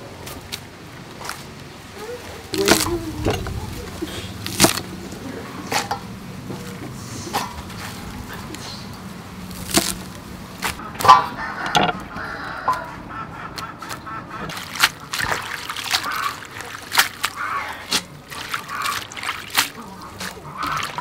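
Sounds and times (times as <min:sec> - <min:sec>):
rustling leaves: 0:00.0 - 0:13.0, 0:13.8 - 0:21.0
water sloshing: 0:00.6 - 0:21.0.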